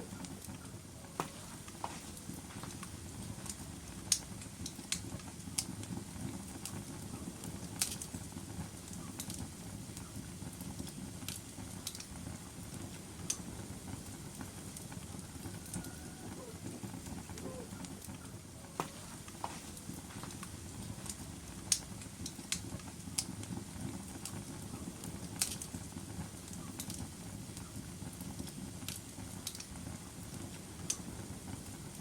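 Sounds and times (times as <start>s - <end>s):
logs crackling and popping: 0.0s - 32.0s
low rumble of flames: 0.0s - 32.0s.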